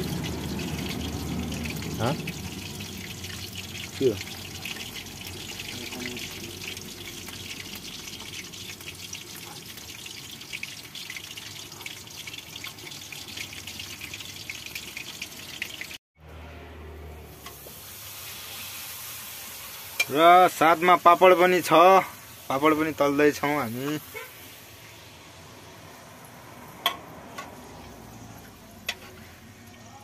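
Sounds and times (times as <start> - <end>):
meat deep-frying in oil: 0.0 - 16.0, 17.2 - 30.0
papad sizzling in oil: 0.0 - 16.0, 17.3 - 30.0.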